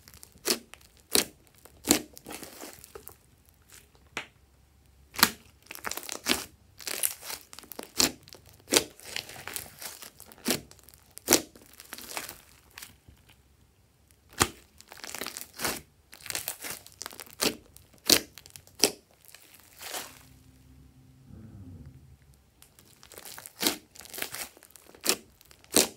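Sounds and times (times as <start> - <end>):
slime wet pops and crackles: 0.1 - 4.4, 5.1 - 13.4, 14.1 - 19.8, 23.2 - 25.9.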